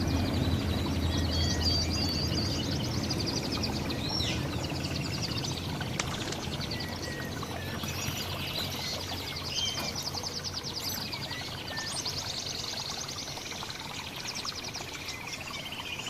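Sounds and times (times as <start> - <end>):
low background hum: 0.0 - 16.0
songbirds singing and chirping: 0.0 - 16.0.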